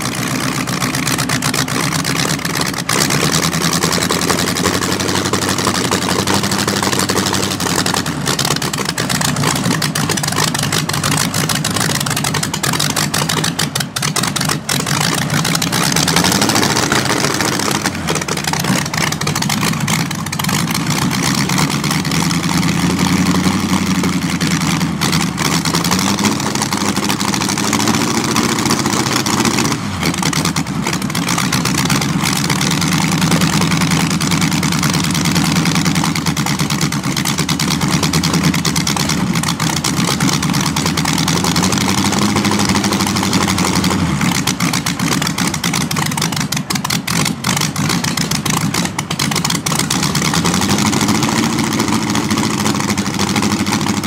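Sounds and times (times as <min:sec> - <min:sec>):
engine idling with throttle blips: 0:00.0 - 0:54.0.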